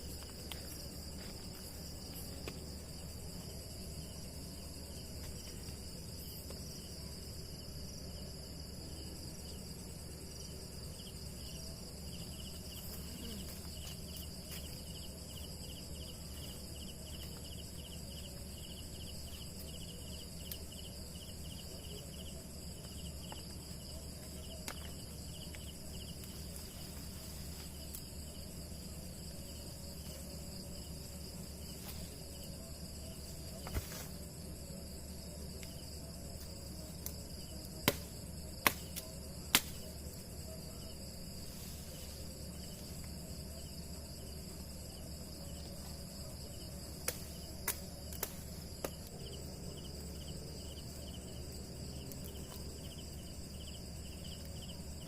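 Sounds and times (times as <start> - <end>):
crickets and insects trilling: 0.0 - 55.0
pulsing insect trill: 0.0 - 55.0.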